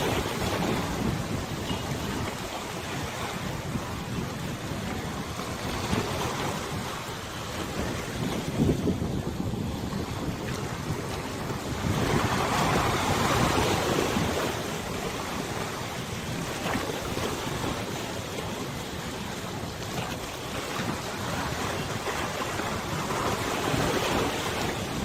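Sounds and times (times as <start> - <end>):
river water washing: 0.0 - 25.0
wind gusting on microphone: 0.0 - 25.0.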